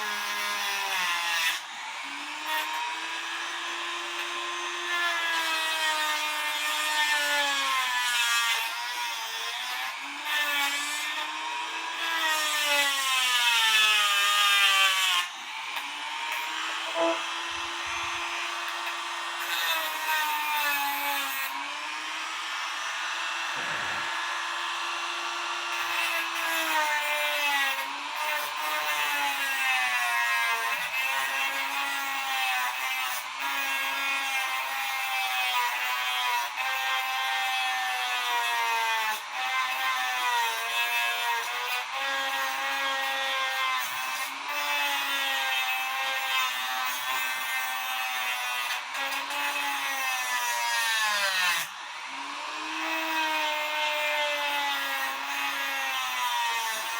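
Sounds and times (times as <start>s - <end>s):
rotary tool grinding metal: 0.0s - 56.9s.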